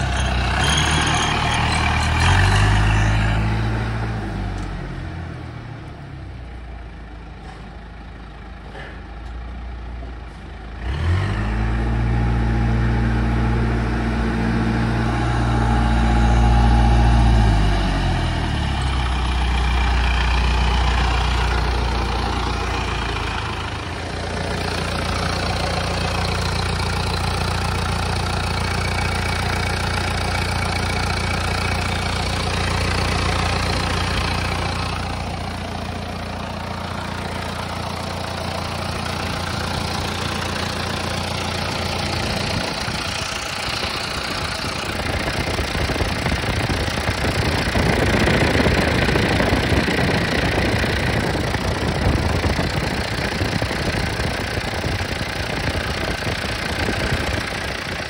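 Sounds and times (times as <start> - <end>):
diesel engine idling: 0.0 - 58.0
engine clatter: 0.0 - 58.0.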